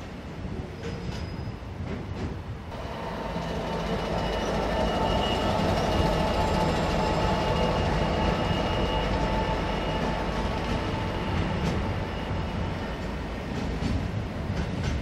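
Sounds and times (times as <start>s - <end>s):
diesel locomotive engine passing: 2.6s - 15.0s.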